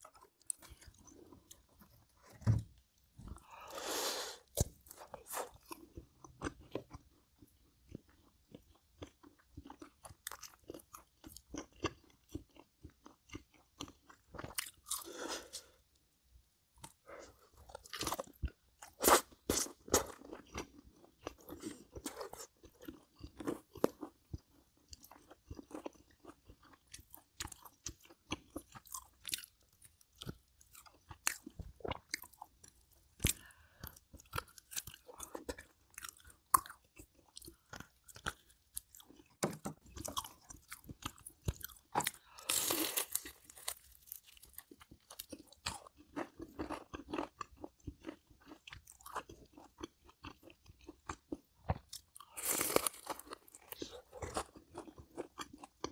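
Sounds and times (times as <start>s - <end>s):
chewing crunchy food: 0.0s - 3.8s, 4.4s - 16.0s, 16.7s - 55.9s.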